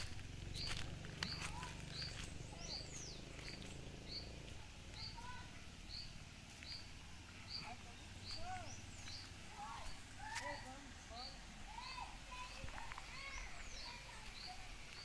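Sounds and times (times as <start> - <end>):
bird high chirp: 0.0 - 15.0.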